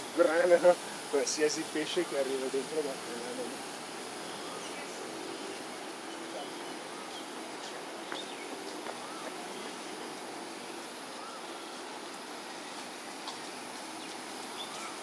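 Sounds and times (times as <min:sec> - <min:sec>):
distant voices murmuring: 0:00.0 - 0:15.0
outdoor background hiss: 0:00.0 - 0:15.0.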